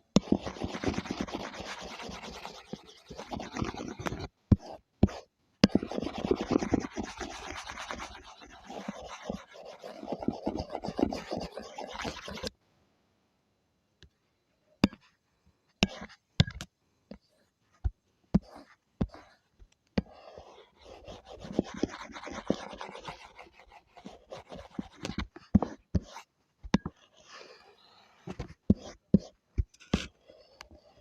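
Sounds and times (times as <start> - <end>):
drawing tool scratching paper: 0.2 - 12.5, 15.8 - 16.2, 17.3 - 31.0.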